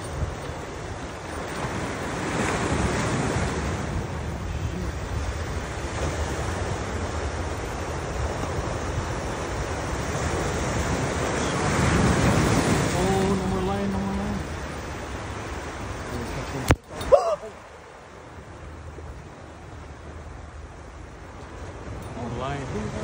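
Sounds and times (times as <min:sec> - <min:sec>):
ocean surf washing ashore: 0:00.0 - 0:23.0
wind buffeting microphone: 0:00.0 - 0:23.0.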